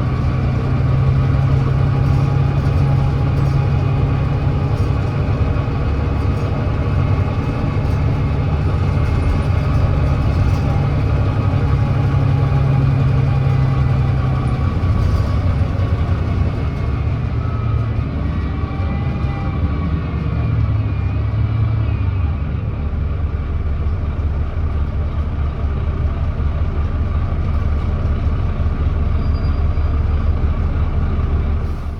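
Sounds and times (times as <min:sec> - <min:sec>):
bus diesel engine running: 0:00.0 - 0:31.9.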